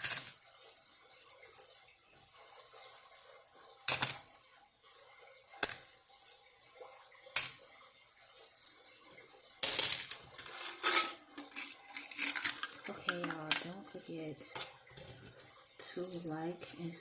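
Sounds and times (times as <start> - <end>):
coins clinking: 0.0 - 4.4, 5.6 - 6.1, 7.4 - 17.0.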